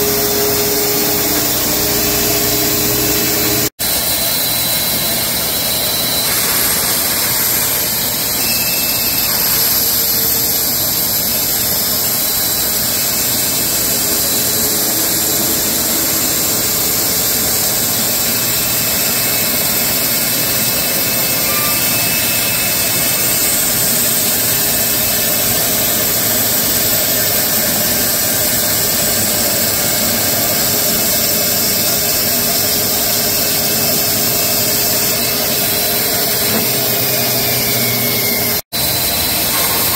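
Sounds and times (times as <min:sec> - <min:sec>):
bandsaw mill cutting log: 0:00.0 - 0:39.9.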